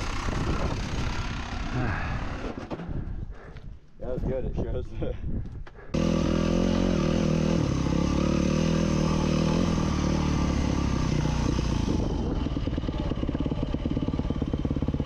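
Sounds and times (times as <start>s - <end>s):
dirt bike engine running: 0.0s - 3.6s, 5.8s - 15.0s.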